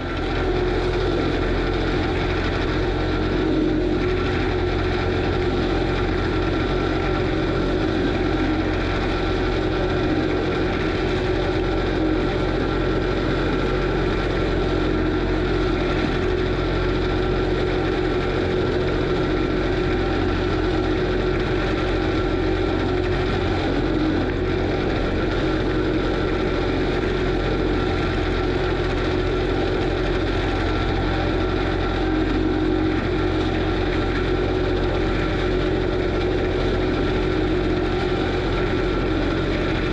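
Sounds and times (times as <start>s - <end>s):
diesel engine droning: 0.0s - 39.9s
steady high whine: 0.0s - 39.9s.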